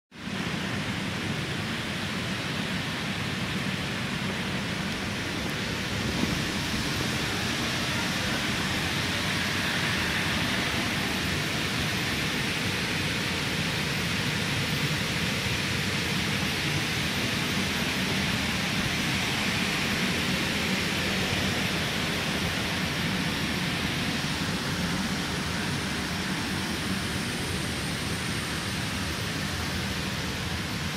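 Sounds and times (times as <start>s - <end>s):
blower fan humming: 0.4s - 30.9s.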